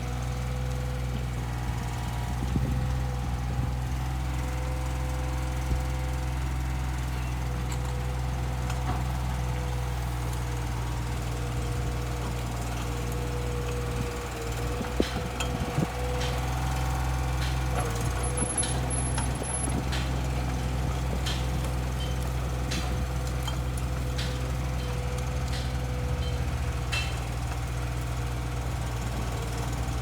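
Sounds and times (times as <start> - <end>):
mini excavator diesel engine: 0.0 - 30.0.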